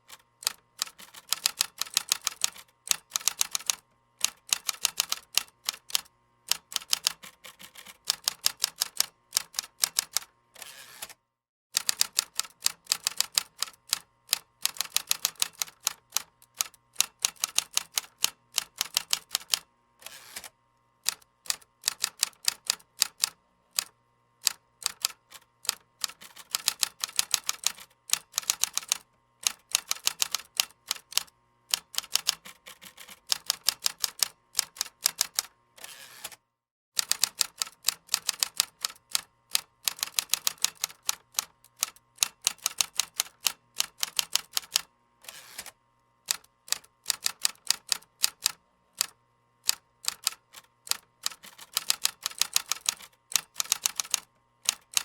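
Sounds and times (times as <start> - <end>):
typing on a keyboard: 0.1 - 10.3, 11.8 - 19.7, 21.1 - 35.5, 37.0 - 44.9, 46.3 - 55.0.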